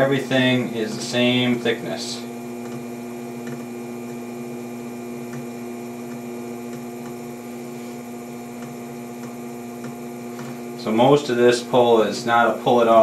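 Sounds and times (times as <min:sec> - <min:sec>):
potter's wheel humming: 0:00.0 - 0:13.0.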